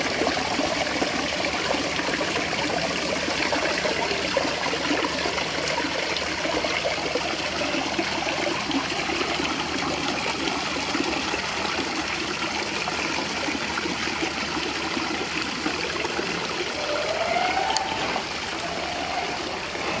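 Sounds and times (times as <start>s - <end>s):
water splashing over rocks: 0.0s - 20.0s.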